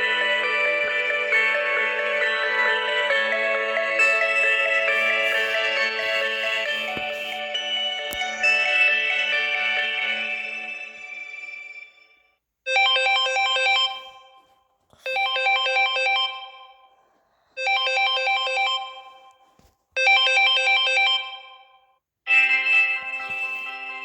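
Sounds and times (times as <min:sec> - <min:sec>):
phone ringtone electronic trills: 0:00.0 - 0:12.1, 0:12.7 - 0:17.0, 0:17.6 - 0:19.3, 0:20.0 - 0:21.7, 0:22.3 - 0:24.0.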